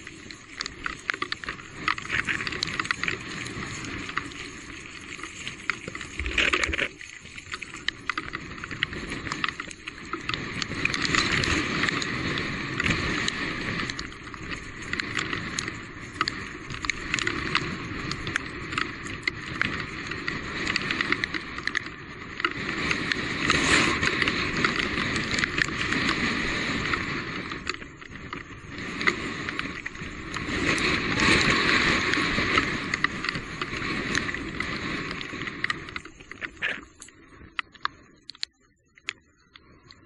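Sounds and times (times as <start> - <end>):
bike tyres on wet trail: 0.0 - 40.0
small clicks and rattles: 0.0 - 40.0.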